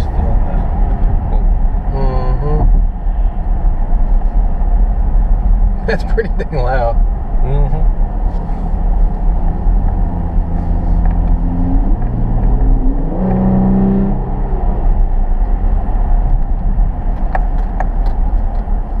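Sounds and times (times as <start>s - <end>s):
car engine under throttle: 0.0s - 19.0s.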